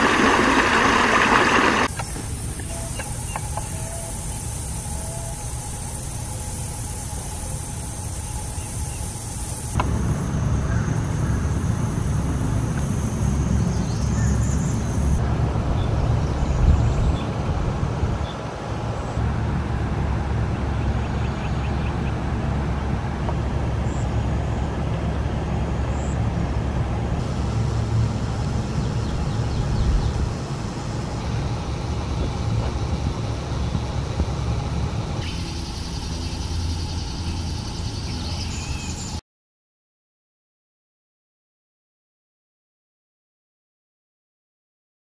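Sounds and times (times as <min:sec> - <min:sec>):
low rumble with hiss: 0:00.0 - 0:39.2.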